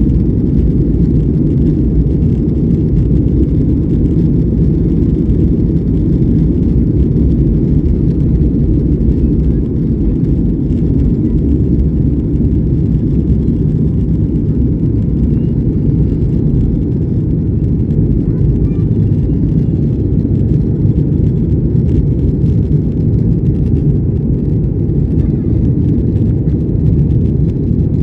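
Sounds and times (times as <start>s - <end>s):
rushing air: 0.0s - 27.2s
jet engines rumbling: 0.0s - 28.0s.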